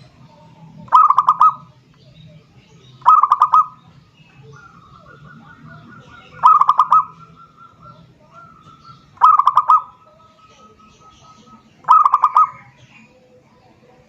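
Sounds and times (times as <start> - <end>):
dove cooing: 0.0 - 13.4.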